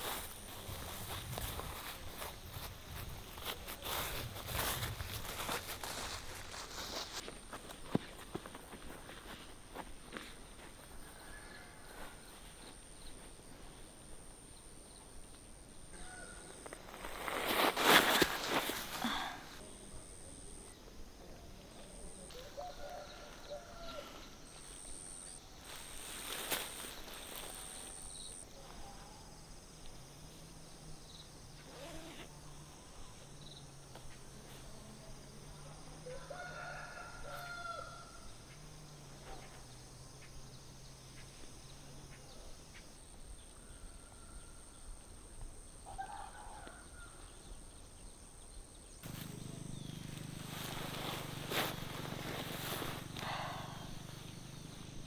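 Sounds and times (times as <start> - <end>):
faint outdoor background: 0.0 - 55.0.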